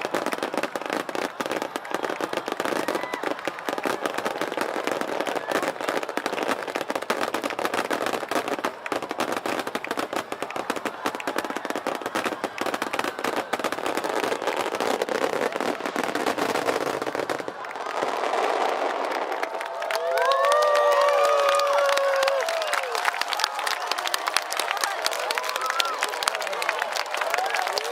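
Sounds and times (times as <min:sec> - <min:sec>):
fireworks crackling and banging: 0:00.0 - 0:27.9.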